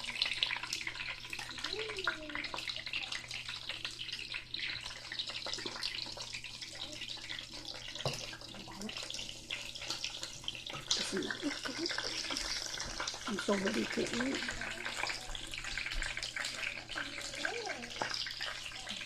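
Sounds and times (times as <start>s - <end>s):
chicken frying in hot oil: 0.0s - 19.0s.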